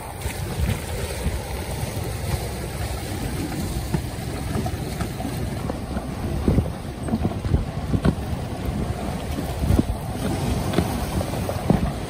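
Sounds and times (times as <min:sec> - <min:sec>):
choppy river water: 0:00.0 - 0:12.0
wind buffeting microphone: 0:00.0 - 0:12.0.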